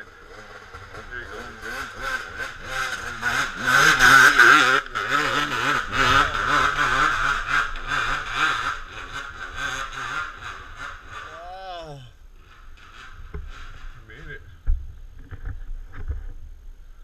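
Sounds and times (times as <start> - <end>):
dirt bike engine revving hard: 0.0 - 13.9.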